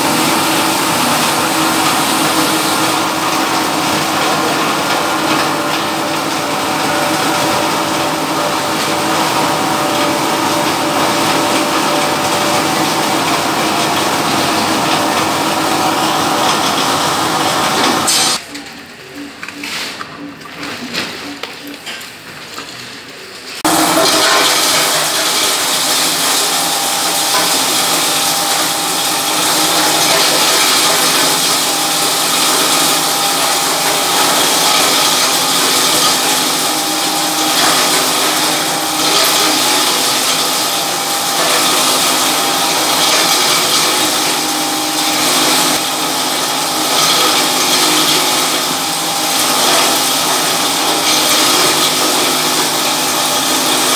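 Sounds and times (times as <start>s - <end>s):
waste grinder grinding: 0.0s - 18.4s, 23.6s - 53.9s.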